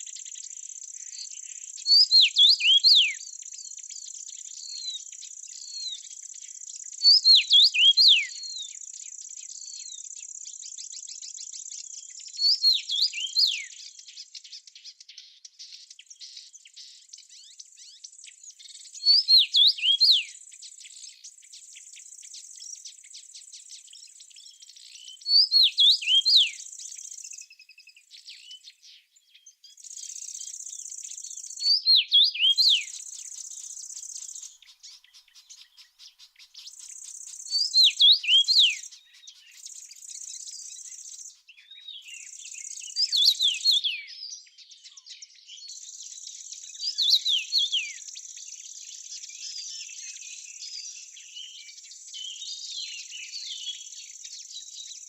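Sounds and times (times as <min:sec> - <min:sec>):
songbird whistling: 0:00.0 - 0:14.0, 0:16.7 - 0:44.2, 0:45.5 - 0:55.0.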